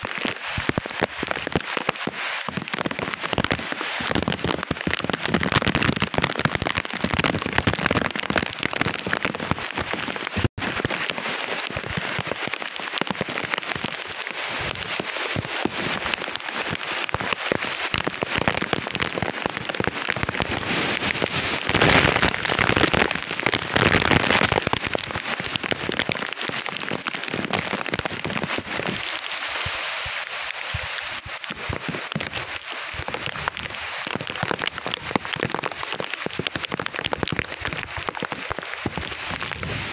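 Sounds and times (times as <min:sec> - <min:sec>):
gusting wind: 0:00.0 - 0:39.9
heavy rain pouring: 0:00.0 - 0:39.9.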